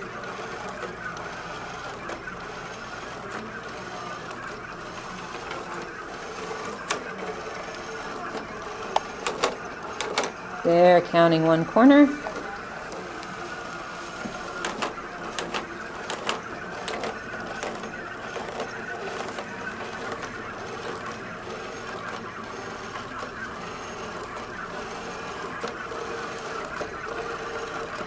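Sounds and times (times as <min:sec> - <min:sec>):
robot motors whirring: 0:00.0 - 0:10.7, 0:11.9 - 0:28.0.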